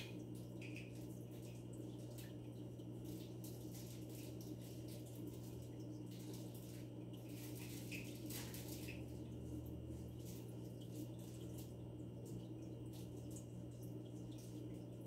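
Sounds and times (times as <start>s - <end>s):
aquarium equipment humming: 0.0s - 15.0s
water trickling and dripping: 0.0s - 15.0s.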